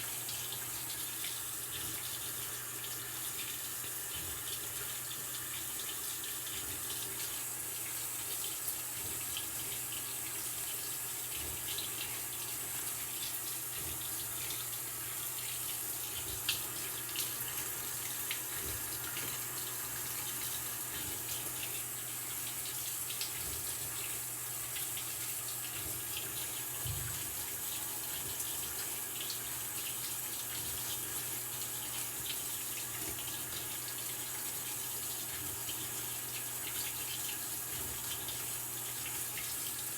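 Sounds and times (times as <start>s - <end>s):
water rushing into washing machine: 0.0s - 39.9s.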